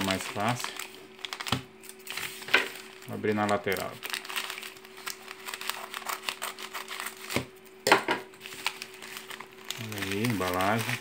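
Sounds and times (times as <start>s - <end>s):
plastic crinkling: 0.0s - 7.4s, 8.4s - 11.0s.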